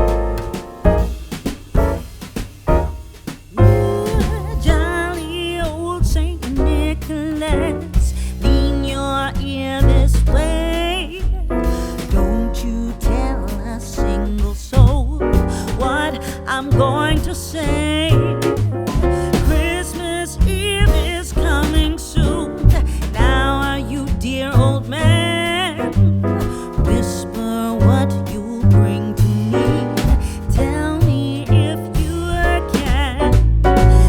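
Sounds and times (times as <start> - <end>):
heavy bass line: 0.0 - 34.0
song with singing voice: 3.6 - 34.0.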